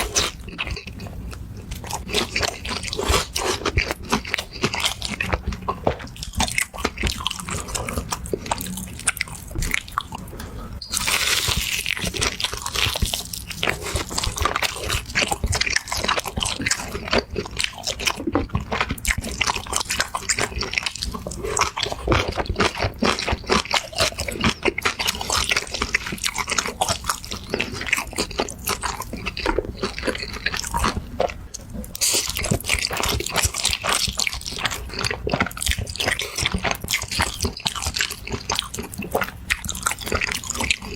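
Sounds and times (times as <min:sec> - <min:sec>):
chewing and biting: 0:00.0 - 0:40.9.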